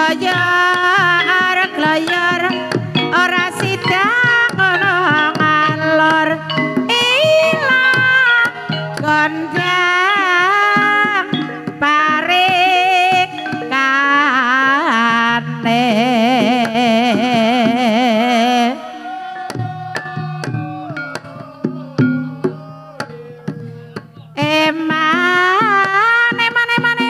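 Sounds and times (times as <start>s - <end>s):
hand drum strokes: 0.0s - 27.0s
woman singing with vibrato: 0.0s - 27.0s
struck melodic tones: 0.2s - 27.0s.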